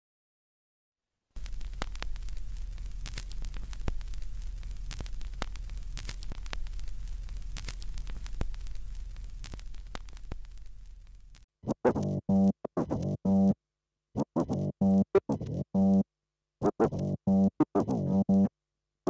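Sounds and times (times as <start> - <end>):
vinyl crackles and pops: 1.4 - 13.6, 14.2 - 16.0, 16.6 - 18.5
vinyl surface hiss and hum: 1.4 - 13.6, 14.3 - 16.0, 16.6 - 18.5.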